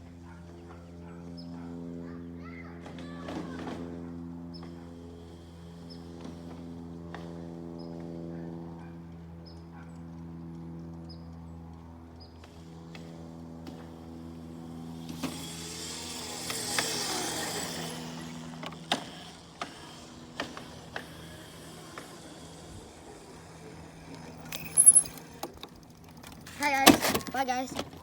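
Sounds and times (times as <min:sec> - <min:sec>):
dirt bike motor running: 0:00.2 - 0:28.0.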